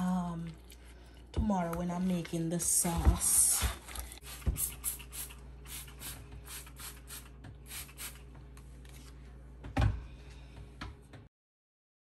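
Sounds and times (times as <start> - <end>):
low steady hum: 0.0 - 11.3.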